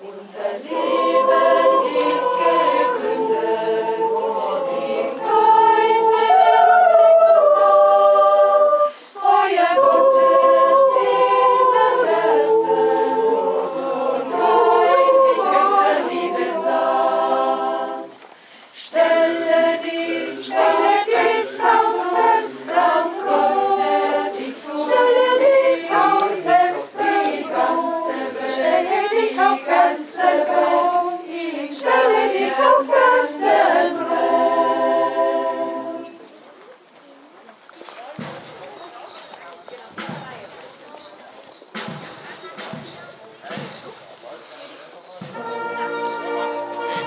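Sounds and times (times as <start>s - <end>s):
choir singing a hymn: 0.0s - 36.3s, 45.2s - 47.0s.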